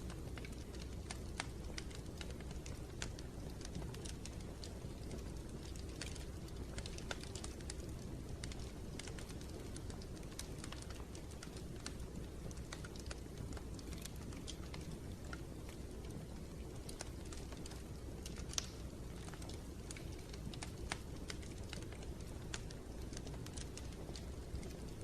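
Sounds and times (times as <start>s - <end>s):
low rumble of flames: 0.0s - 25.0s
wood fire popping and snapping: 0.0s - 25.0s.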